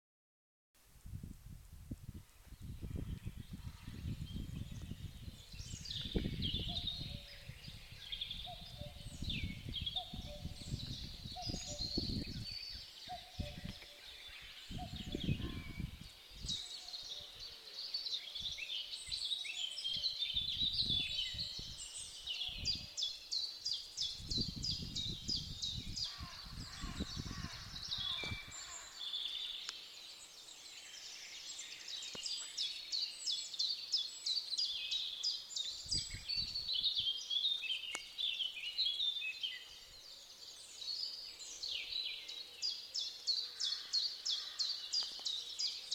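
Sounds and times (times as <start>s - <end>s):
birds chirping and trilling: 2.5s - 45.9s.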